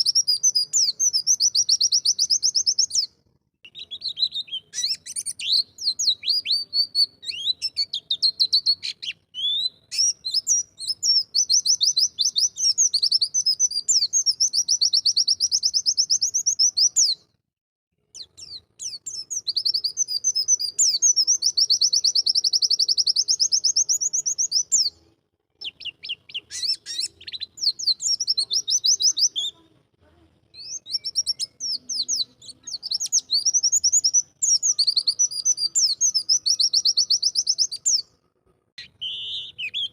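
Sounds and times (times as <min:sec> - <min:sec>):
bird singing rapid high twittering: 0:00.0 - 0:03.1, 0:03.7 - 0:17.2, 0:18.2 - 0:25.0, 0:25.6 - 0:29.6, 0:30.6 - 0:38.1, 0:38.8 - 0:39.9.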